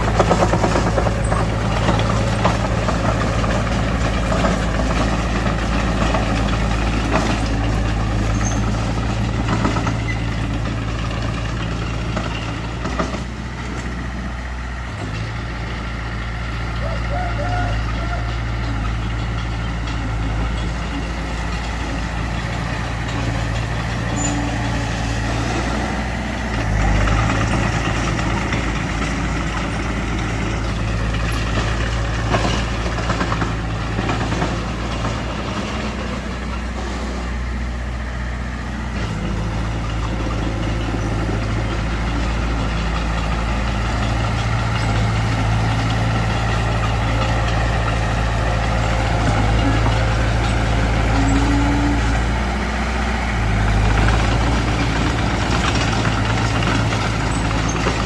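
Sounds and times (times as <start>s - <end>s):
heavy diesel engine running: 0.0s - 58.0s
machinery clatter: 0.0s - 58.0s.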